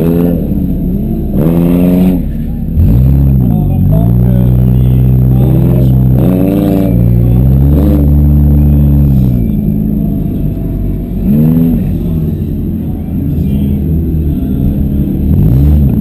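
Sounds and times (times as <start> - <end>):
car engines running hard: 0.0 - 16.0
engine revving: 0.0 - 16.0.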